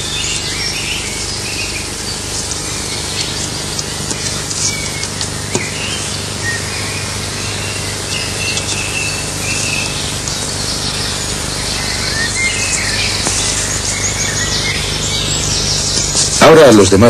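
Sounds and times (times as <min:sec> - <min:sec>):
birds chirping: 0:00.0 - 0:17.0
high buzz of insects: 0:00.0 - 0:17.0.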